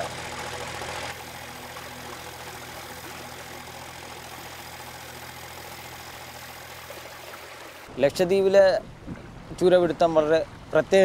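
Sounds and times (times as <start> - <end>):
boat diesel engine humming: 0.0 - 11.0.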